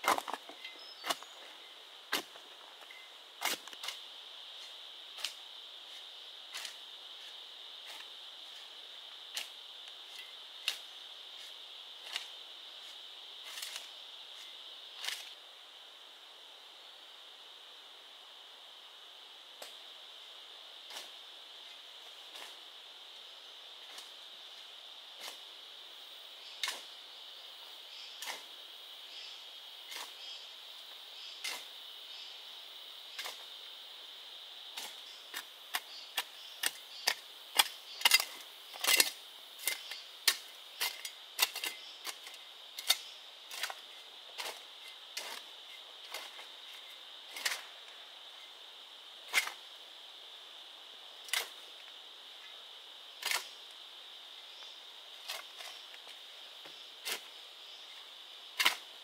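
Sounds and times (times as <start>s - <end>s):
forest insects droning: 0.0s - 59.0s.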